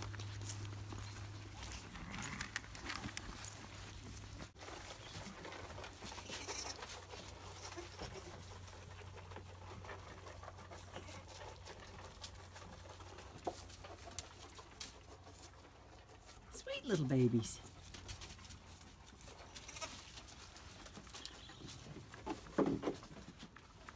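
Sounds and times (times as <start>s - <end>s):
lambs moving on straw: 0.0s - 23.9s
sheep feeding at trough: 0.0s - 23.9s.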